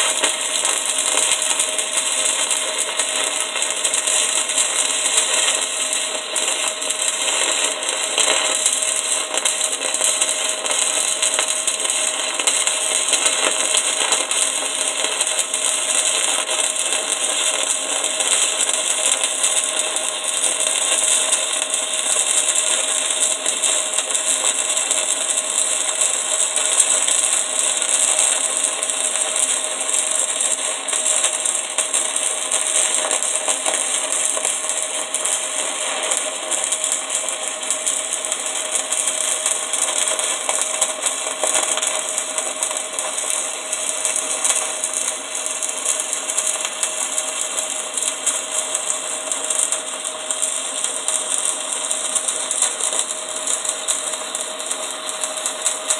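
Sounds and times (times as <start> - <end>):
welding arc crackling: 0.0 - 55.9.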